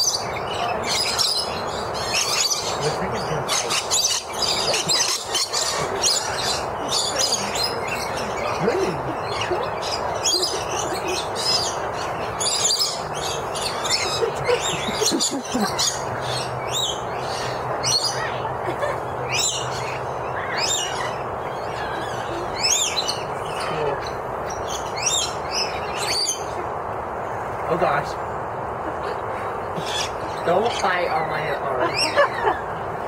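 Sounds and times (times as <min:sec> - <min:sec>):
birds chirping: 0:00.0 - 0:33.0
steady background hum: 0:00.0 - 0:33.0.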